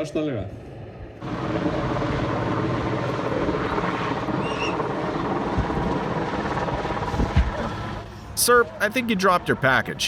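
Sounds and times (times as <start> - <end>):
helicopter rotor and engine: 0.6 - 10.0.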